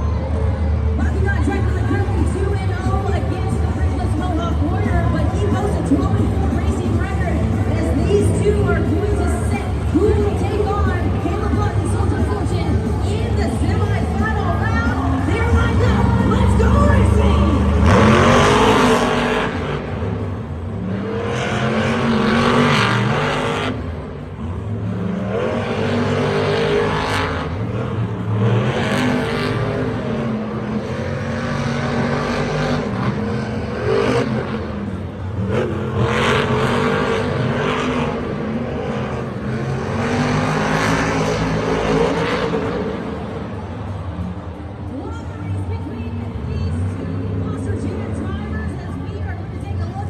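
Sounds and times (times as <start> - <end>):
monster truck engines revving: 0.0 - 50.0.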